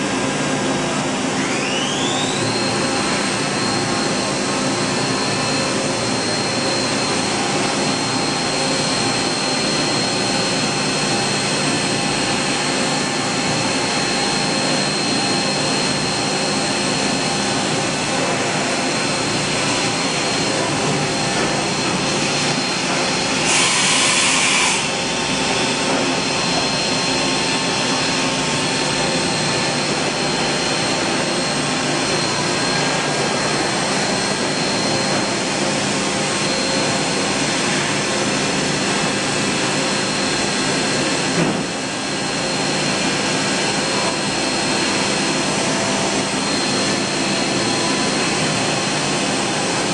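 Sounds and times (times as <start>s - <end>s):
machine whirring hum with whine: 0.0s - 49.9s.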